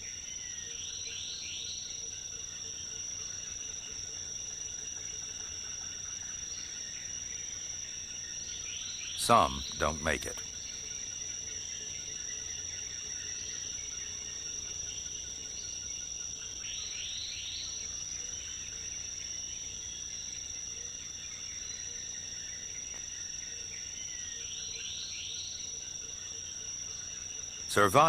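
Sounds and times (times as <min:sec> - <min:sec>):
faint steady insect tones: 0:00.0 - 0:28.0
insects trilling: 0:00.0 - 0:28.0.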